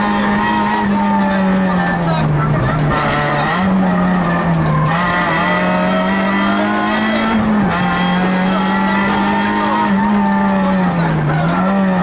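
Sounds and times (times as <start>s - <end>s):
car engine revving hard: 0.0s - 12.0s.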